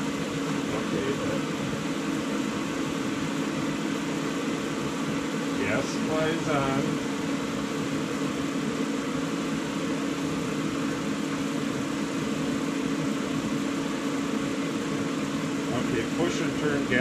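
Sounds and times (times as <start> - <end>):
heater motor and fan running: 0.0 - 17.0.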